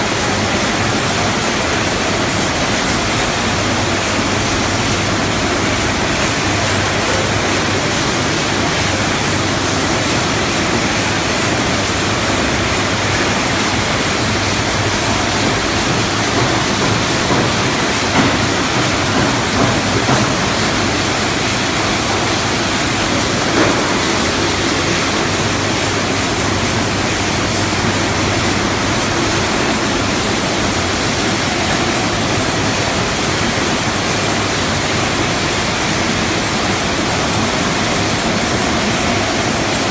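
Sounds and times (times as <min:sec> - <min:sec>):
loud rushing machinery din: 0:00.0 - 0:39.9.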